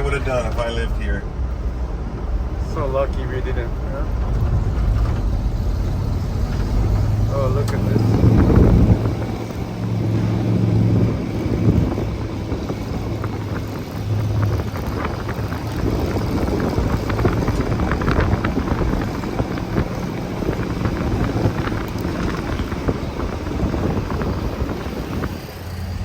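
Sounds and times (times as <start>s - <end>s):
road and wind noise: 0.0s - 26.0s
vehicle engine hum: 0.0s - 26.0s.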